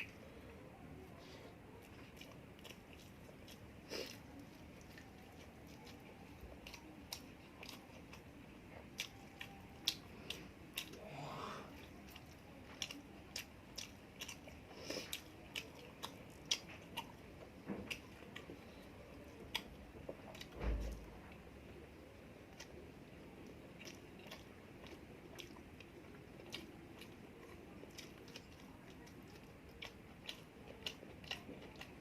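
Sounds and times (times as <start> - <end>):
person chewing: 1.7 - 20.6, 22.4 - 32.0.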